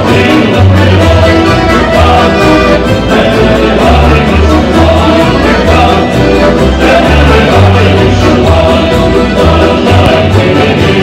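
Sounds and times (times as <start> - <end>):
double bass low notes: 0.0 - 11.0
street band playing lively tune: 0.0 - 11.0.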